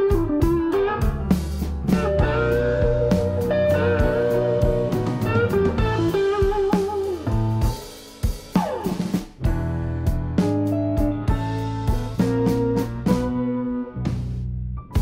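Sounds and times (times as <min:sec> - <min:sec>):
bass line: 0:00.0 - 0:15.0
blues electric guitar lead: 0:00.0 - 0:15.0.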